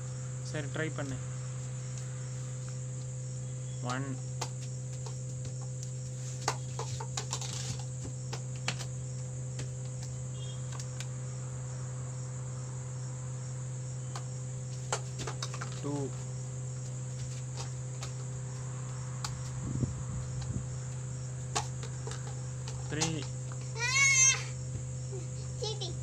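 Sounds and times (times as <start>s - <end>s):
crickets chirping: 0.0s - 26.0s
steady low hum: 0.0s - 26.0s.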